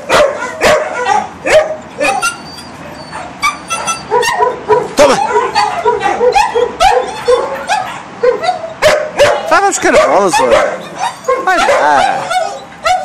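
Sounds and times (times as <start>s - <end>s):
dog barking: 0.0s - 2.3s, 3.1s - 13.0s
dog whining: 0.2s - 13.0s.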